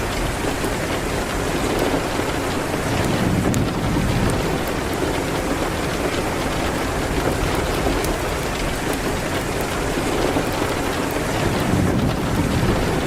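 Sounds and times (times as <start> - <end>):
rain on a window: 0.0 - 13.0.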